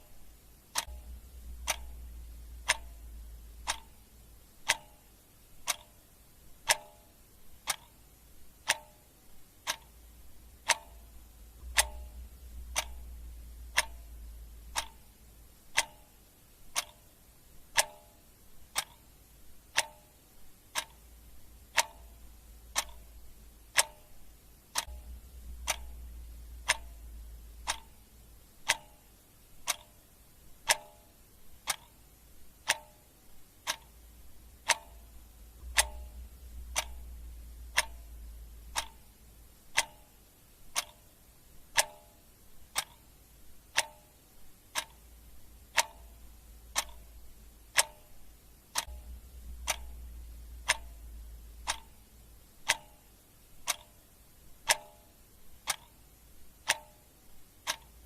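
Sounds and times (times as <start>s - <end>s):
clock ticking: 0.0s - 58.0s
faint low hum: 0.0s - 58.0s.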